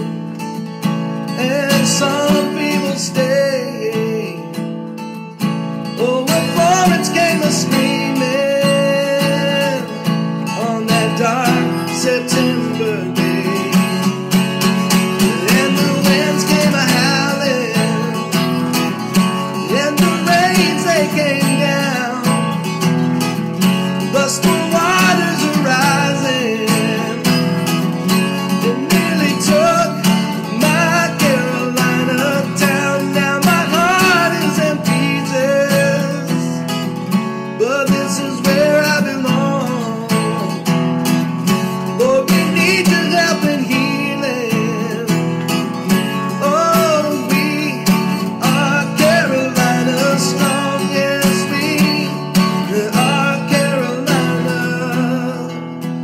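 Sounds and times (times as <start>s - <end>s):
acoustic guitar country music: 0.0s - 56.0s.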